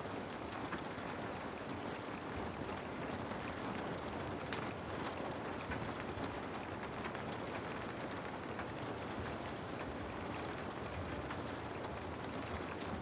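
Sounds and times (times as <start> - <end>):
steady rain hiss: 0.0 - 13.0
raindrop ticks: 0.1 - 13.0.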